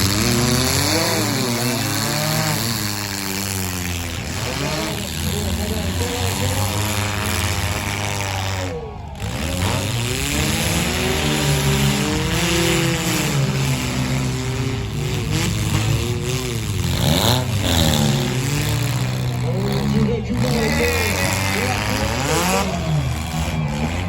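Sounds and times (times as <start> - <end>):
car engines revving hard: 0.0 - 24.0
low engine drone: 0.0 - 24.0.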